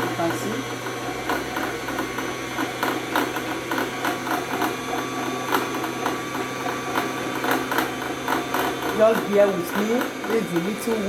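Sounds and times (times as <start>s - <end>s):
sewing machine motor hum: 0.0s - 11.0s.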